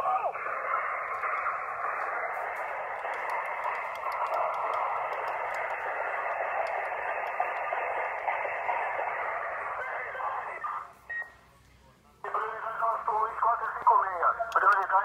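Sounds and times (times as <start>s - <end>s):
radio static with crackling: 0.0s - 11.5s, 12.2s - 15.0s.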